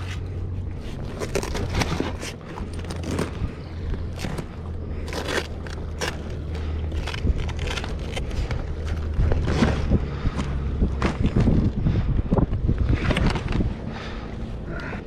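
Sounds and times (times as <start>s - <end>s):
scraping and knocking on a kayak: 0.0s - 13.7s
steady low rumble: 0.0s - 15.0s.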